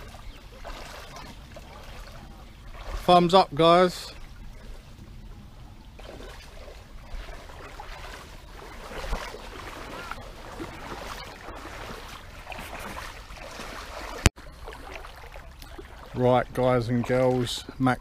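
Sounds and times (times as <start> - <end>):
stream water sloshing: 0.0 - 18.0.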